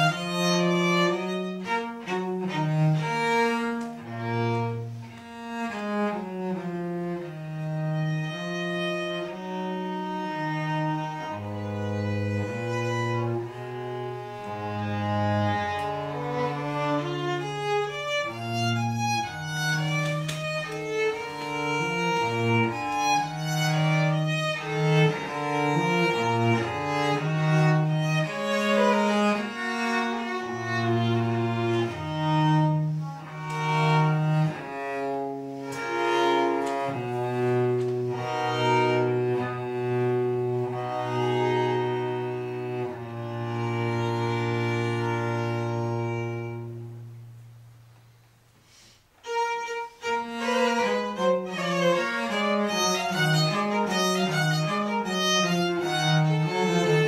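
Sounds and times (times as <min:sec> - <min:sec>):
violin melody: 0:00.0 - 0:47.9, 0:48.7 - 0:57.0.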